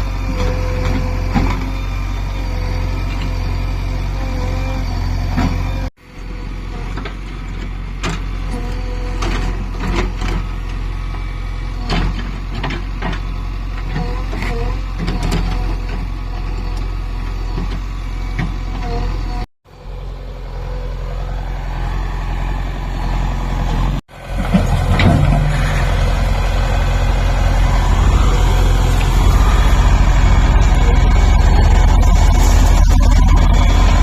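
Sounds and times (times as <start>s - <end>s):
machine engine deep rumble: 0.0s - 34.0s.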